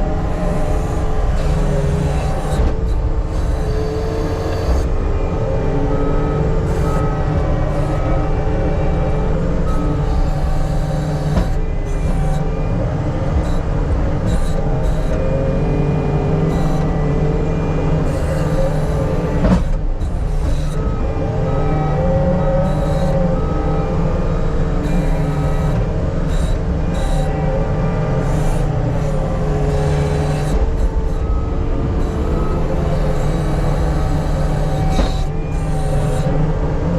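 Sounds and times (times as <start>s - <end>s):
heavy diesel machinery running: 0.0s - 36.9s.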